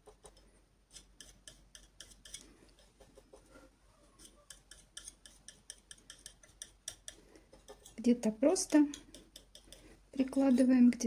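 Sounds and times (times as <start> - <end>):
brush dabbing paint on canvas: 0.0 - 11.0.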